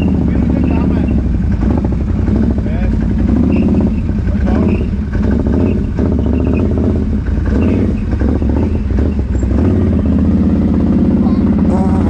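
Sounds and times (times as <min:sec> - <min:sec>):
atv engine under throttle: 0:00.0 - 0:12.0.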